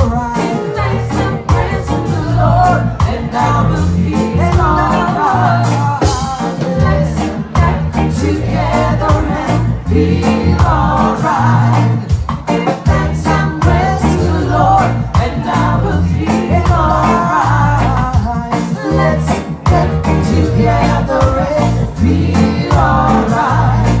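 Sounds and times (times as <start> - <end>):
reggae band playing: 0.0 - 24.0.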